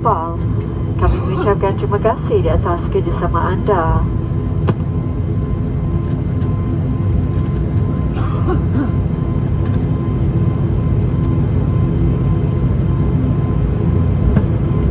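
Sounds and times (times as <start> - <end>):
aircraft cabin drone: 0.0 - 14.9
faint steady whine: 0.0 - 14.9.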